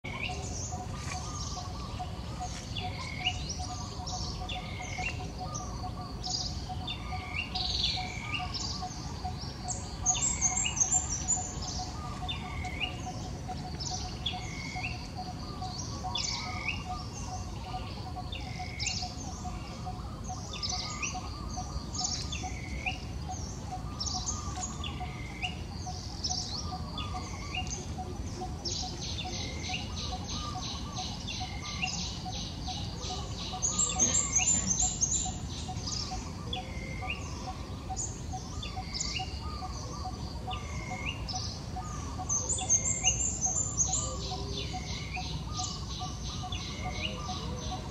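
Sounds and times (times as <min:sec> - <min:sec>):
outdoor background noise: 0:00.0 - 0:47.9.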